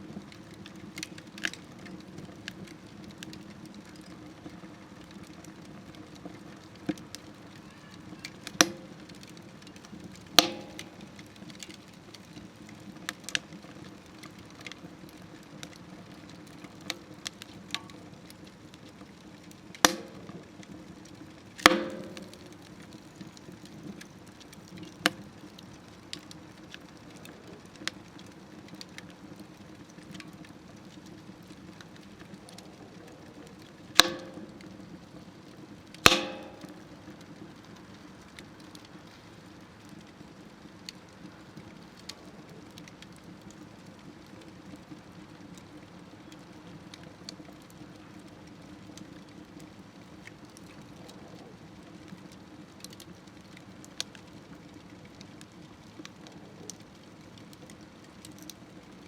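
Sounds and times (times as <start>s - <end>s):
fire rushing in a wood stove: 0.0s - 59.0s
wood crackling and popping: 0.0s - 59.0s.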